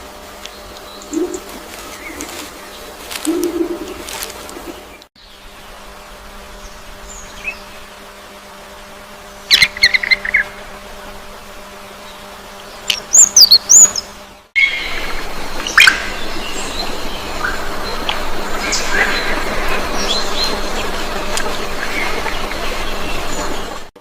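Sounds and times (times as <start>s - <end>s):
birds chirping high: 0.0s - 5.8s, 9.2s - 10.7s, 11.9s - 23.9s
steady low hum: 0.0s - 24.0s.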